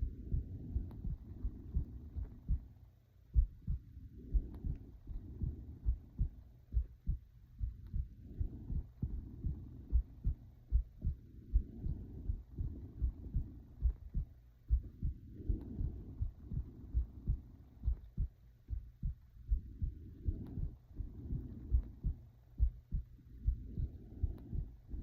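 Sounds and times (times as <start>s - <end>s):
heartbeat: 0.0s - 25.0s.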